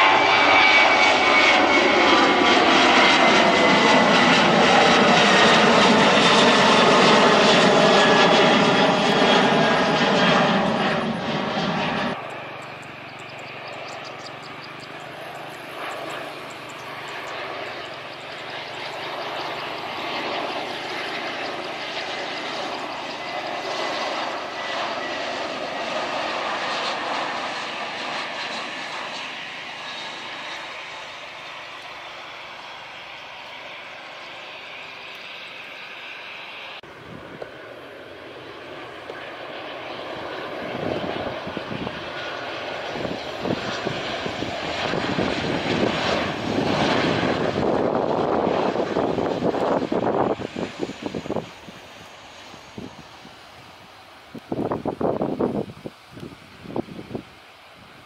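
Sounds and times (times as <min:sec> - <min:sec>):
distant aircraft engine: 0:00.0 - 0:58.0
jet airliner passing: 0:00.0 - 0:58.0.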